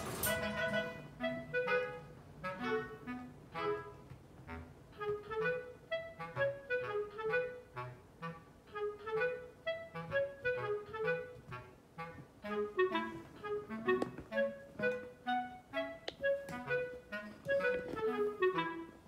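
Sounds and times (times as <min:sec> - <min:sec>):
light woodwind tune over bass: 0:00.3 - 0:19.0.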